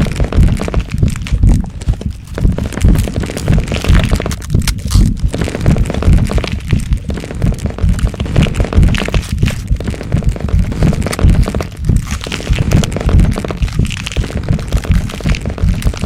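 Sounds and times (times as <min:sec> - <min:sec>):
cracking and crunching: 0:00.0 - 0:16.0
deep low rumble: 0:00.0 - 0:16.0.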